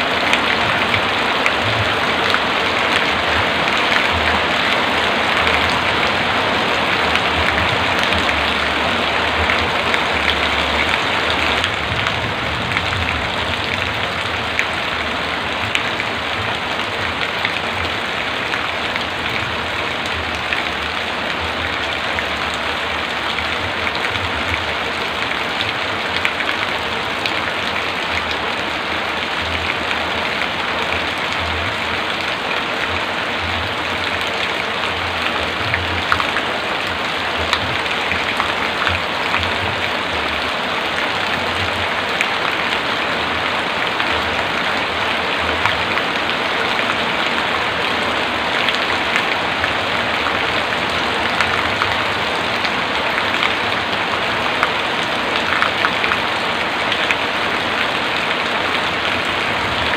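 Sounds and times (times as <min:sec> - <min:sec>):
heavy rain hissing: 0:00.0 - 0:59.9
raindrops ticking on hard surface: 0:00.0 - 0:59.9.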